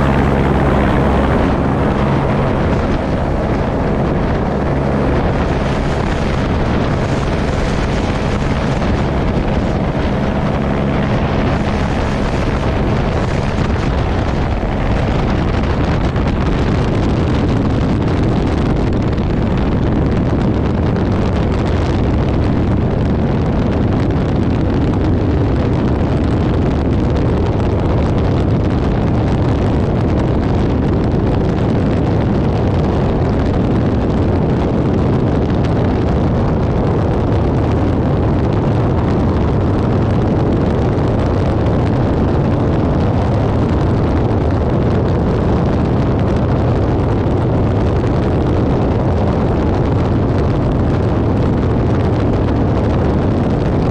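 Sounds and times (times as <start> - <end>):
helicopter turbine and rotor rumble: 0.0 - 53.9.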